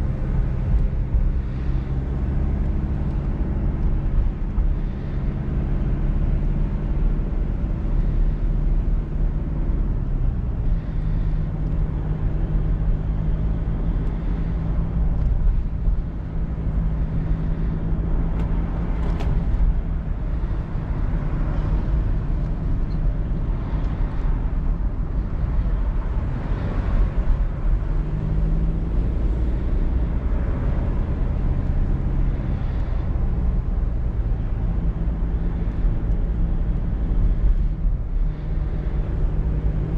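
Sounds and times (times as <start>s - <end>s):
car engine running: 0.0s - 39.9s
road and wind rumble: 0.0s - 39.9s.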